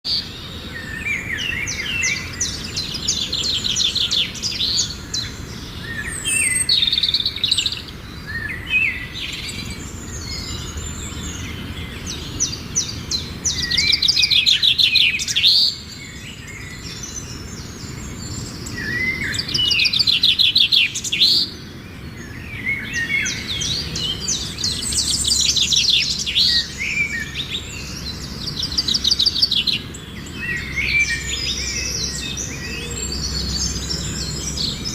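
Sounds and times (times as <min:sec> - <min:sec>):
songbirds trilling: 0:00.0 - 0:34.9
bird chirps: 0:00.1 - 0:34.9.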